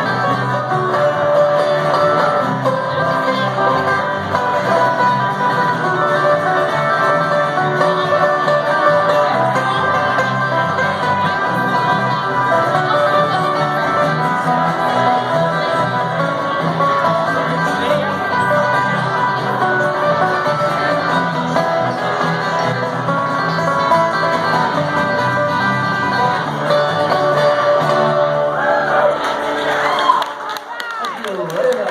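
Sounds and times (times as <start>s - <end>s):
electric bass: 0.0s - 29.9s
banjo: 0.0s - 30.7s
acoustic guitars: 0.0s - 31.8s
bluegrass band playing: 0.0s - 31.8s.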